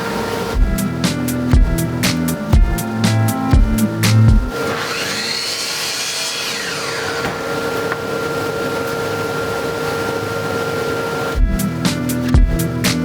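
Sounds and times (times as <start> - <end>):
power tool running: 0.0 - 11.4.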